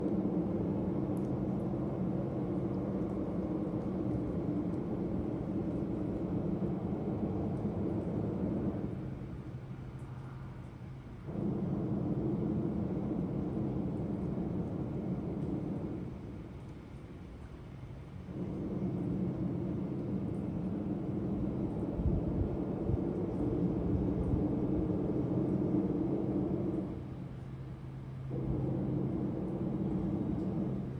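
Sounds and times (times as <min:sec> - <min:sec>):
low droning hum: 0:00.0 - 0:30.9.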